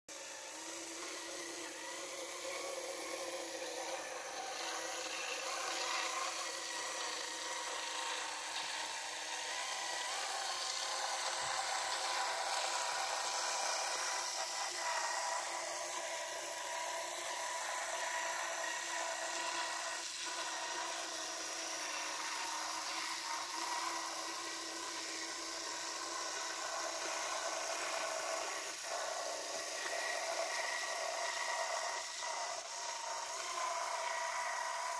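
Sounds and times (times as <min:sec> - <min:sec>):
model locomotive motor whirring: 0:00.1 - 0:34.9
model train wheels rolling on track: 0:00.1 - 0:34.9.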